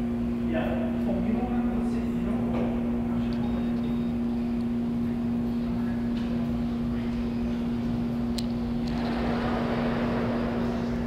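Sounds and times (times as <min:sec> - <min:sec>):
low machine hum: 0:00.0 - 0:11.0
low room rumble: 0:00.0 - 0:11.0.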